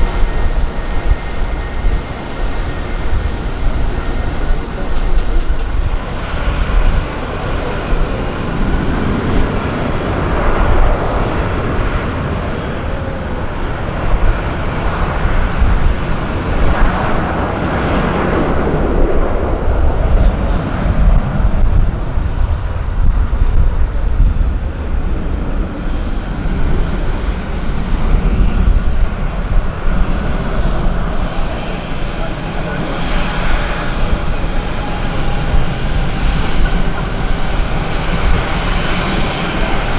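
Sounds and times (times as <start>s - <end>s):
aircraft engines rumbling: 0.0s - 39.9s.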